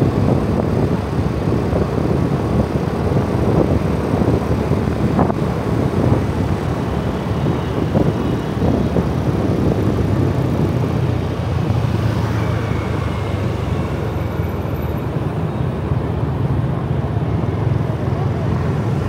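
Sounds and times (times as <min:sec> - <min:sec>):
motorbike engine hum: 0:00.0 - 0:19.0
traffic: 0:00.0 - 0:19.0
wind rush on microphone: 0:00.0 - 0:19.0.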